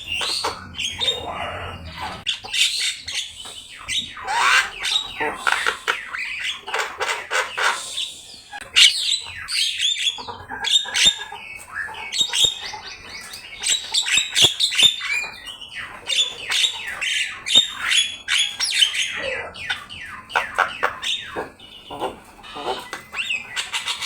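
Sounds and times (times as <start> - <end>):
myna bird singing: 0.0 - 24.0.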